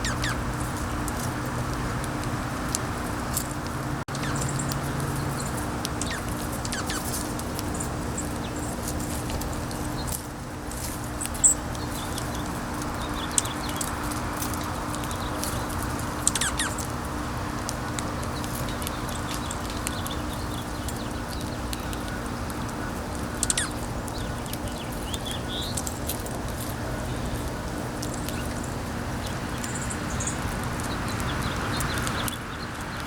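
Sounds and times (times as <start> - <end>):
low steady hum: 0.0 - 33.0
small birds chirping: 0.0 - 33.0.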